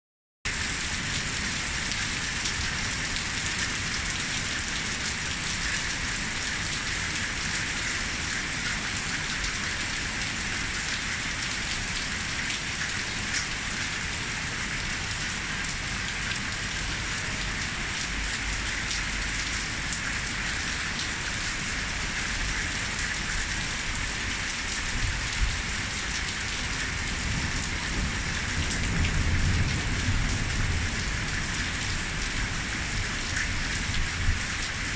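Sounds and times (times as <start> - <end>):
heavy rain pouring: 0.5 - 34.9.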